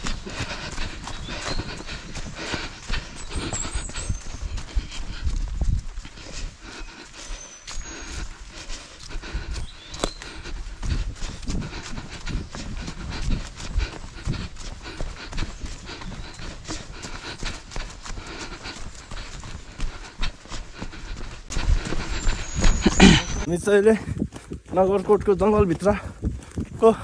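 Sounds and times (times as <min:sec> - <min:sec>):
hard panting breath: 0:00.0 - 0:25.1
footsteps running on a trail: 0:00.0 - 0:27.0.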